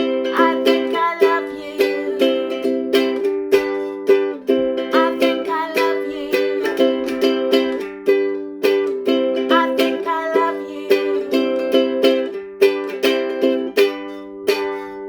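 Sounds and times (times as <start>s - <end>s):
ukulele strumming chords: 0.0s - 15.0s.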